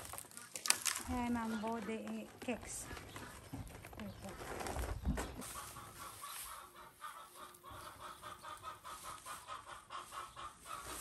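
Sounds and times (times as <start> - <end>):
chickens clucking: 1.1 - 11.0.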